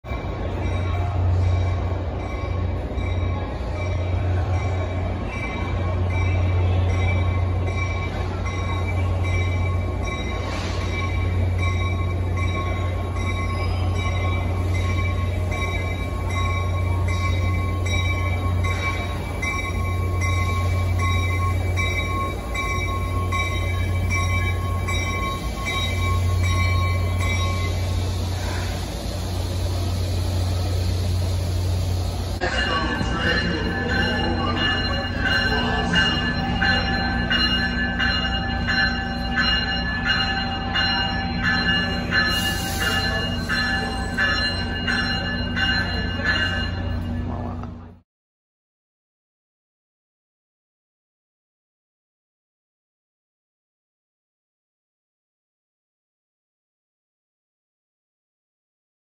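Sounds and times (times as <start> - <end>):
low hum of trains: 0.0 - 48.0
train pulling into station: 0.0 - 48.0.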